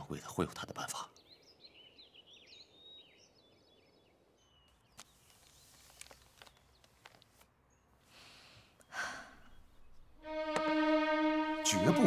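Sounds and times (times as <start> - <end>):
small birds twittering: 0.0 - 10.3.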